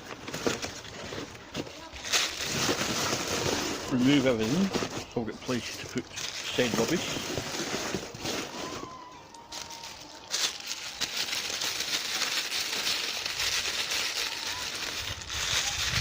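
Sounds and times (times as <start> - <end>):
paper packaging rustling: 0.0 - 16.0.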